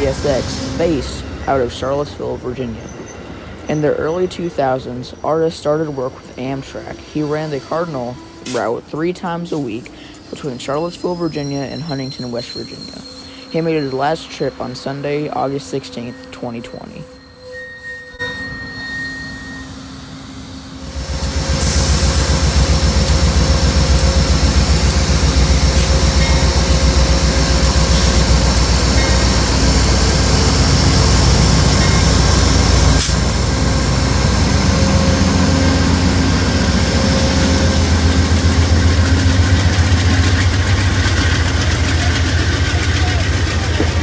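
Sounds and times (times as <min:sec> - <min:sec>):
diesel locomotive engine pulsing: 0:00.0 - 0:44.0.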